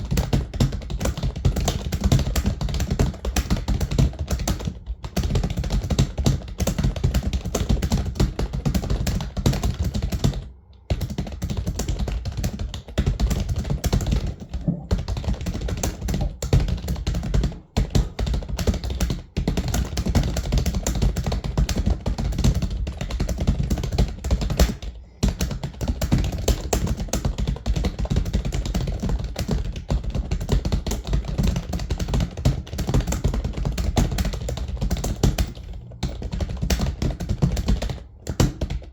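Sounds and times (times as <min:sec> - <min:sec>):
fast typing on keyboard: 0:00.0 - 0:38.9.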